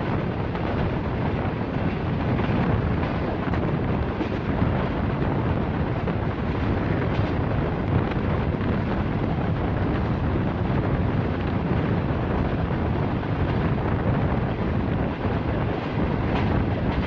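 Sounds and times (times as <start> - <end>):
train running at speed: 0.0 - 17.0
wind buffeting microphone: 0.0 - 17.0.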